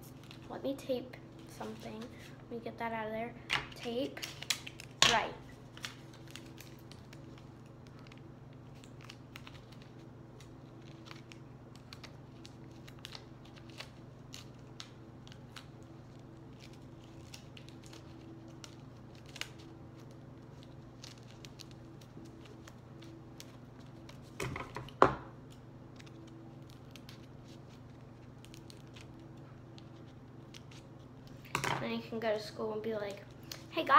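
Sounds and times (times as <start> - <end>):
paper and tape crinkling: 0.0 - 2.4, 3.7 - 33.9
steady low hum: 0.0 - 33.9.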